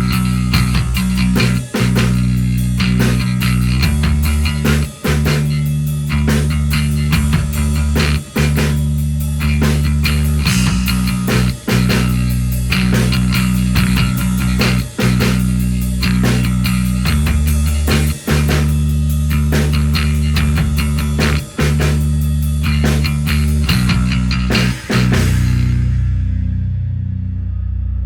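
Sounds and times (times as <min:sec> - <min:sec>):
drum kit playing: 0:00.0 - 0:26.6
bass guitar rock riff: 0:00.0 - 0:28.0.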